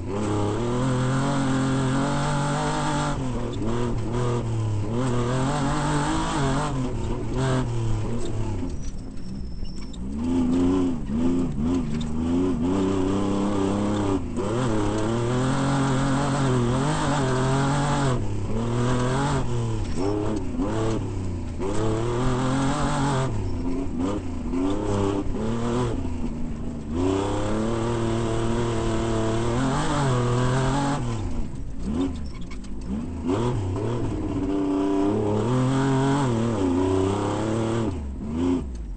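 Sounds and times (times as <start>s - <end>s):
race vehicle engine revving: 0.0s - 38.9s.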